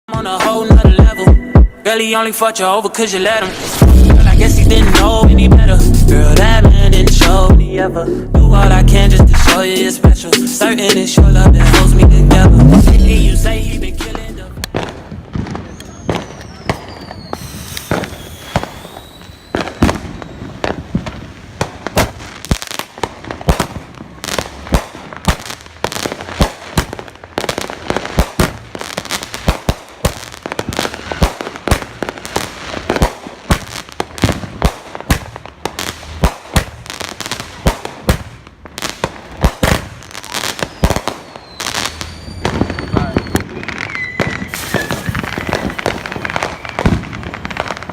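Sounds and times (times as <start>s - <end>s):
fireworks and firecrackers banging: 0.1s - 7.6s, 9.0s - 47.9s.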